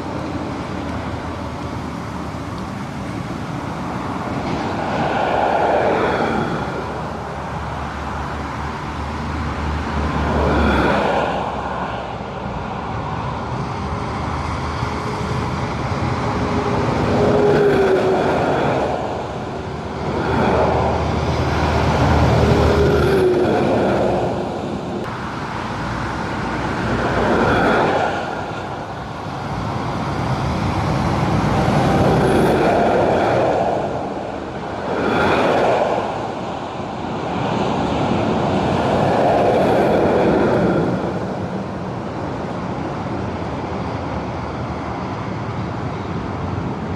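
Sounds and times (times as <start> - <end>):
trucks and traffic passing: 0.0 - 46.9.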